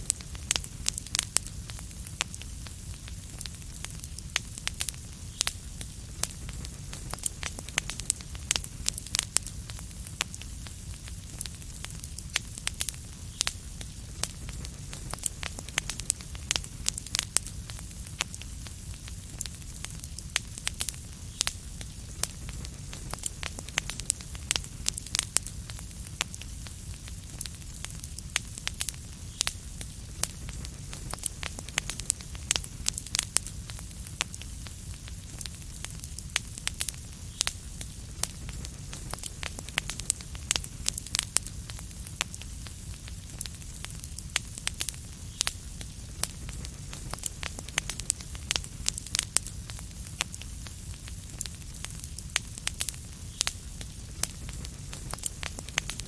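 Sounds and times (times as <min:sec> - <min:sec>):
low rumble and soft hiss: 0:00.0 - 0:56.0
wood fire crackling: 0:00.0 - 0:56.0.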